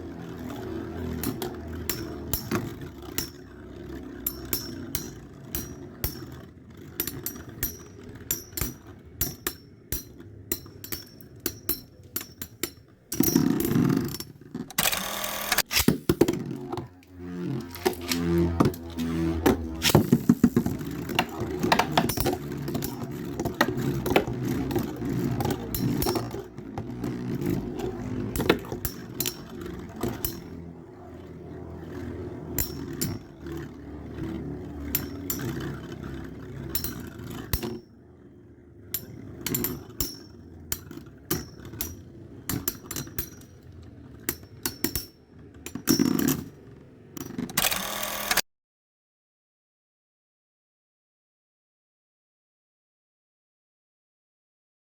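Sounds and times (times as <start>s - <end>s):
spinning tops whirring: 0.0s - 48.4s.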